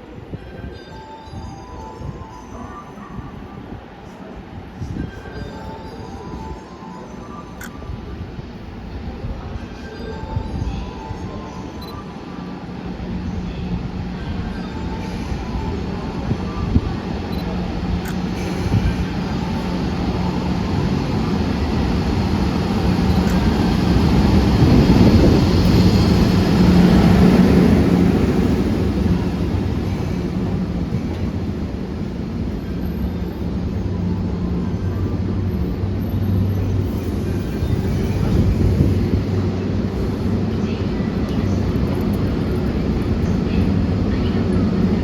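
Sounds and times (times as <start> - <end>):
train rolling noise: 0.0 - 45.0
electric locomotive motor hum: 2.0 - 45.0.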